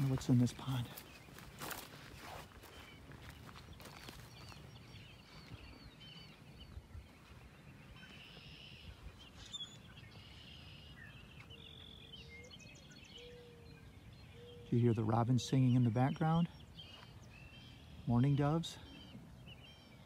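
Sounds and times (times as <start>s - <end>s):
robins singing: 0.0s - 20.0s.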